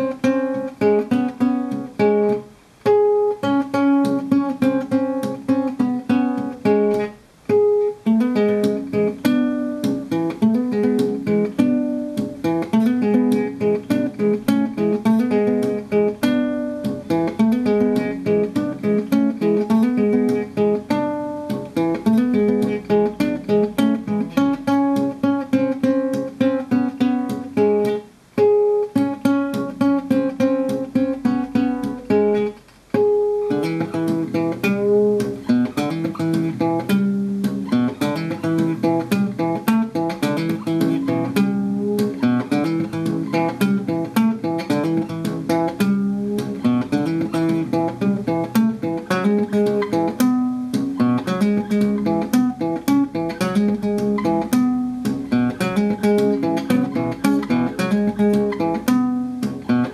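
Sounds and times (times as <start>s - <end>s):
fingerstyle nylon-string guitar: 0.0s - 59.9s.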